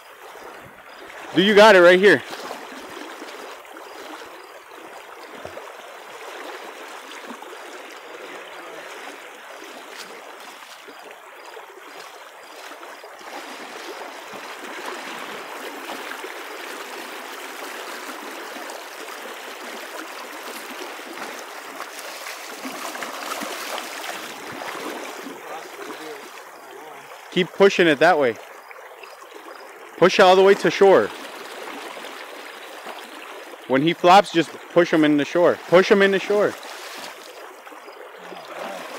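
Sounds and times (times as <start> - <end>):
river running over stones: 0.0 - 38.9.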